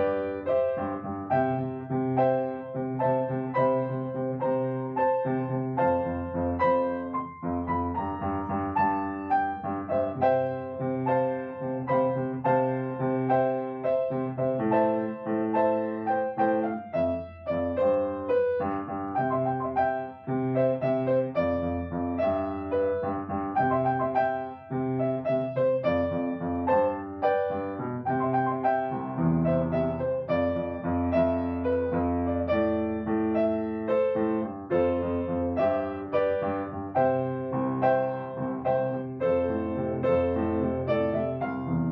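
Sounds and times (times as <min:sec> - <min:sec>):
piano music: 0:00.0 - 0:41.9.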